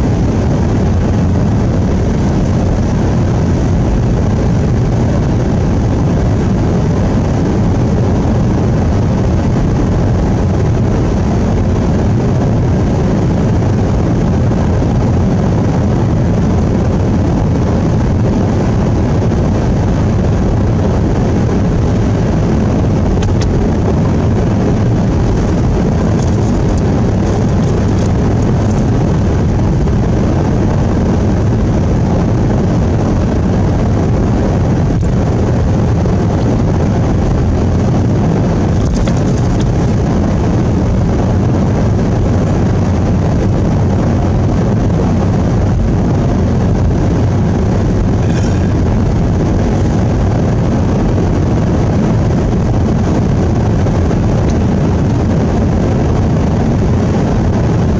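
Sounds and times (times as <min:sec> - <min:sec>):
vehicle cabin road and engine noise: 0:00.0 - 0:57.9.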